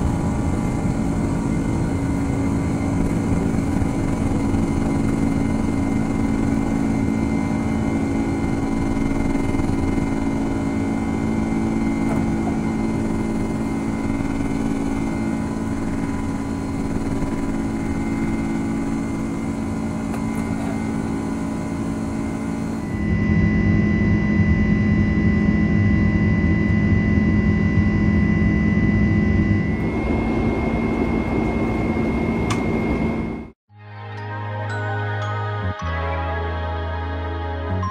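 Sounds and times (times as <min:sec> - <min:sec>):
jet cabin engine drone: 0:00.0 - 0:33.6.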